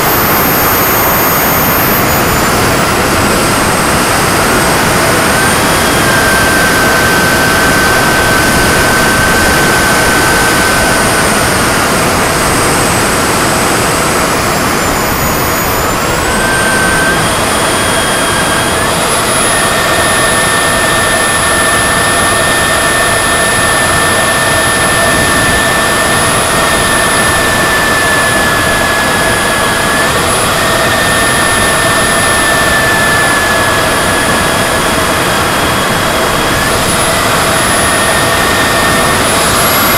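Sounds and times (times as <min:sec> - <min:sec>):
jet turbine engine whine: 0:00.0 - 0:39.9.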